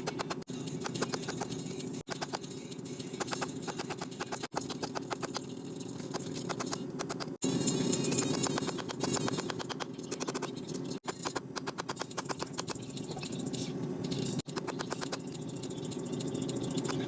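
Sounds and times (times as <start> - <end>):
forge hum: 0.0 - 17.0.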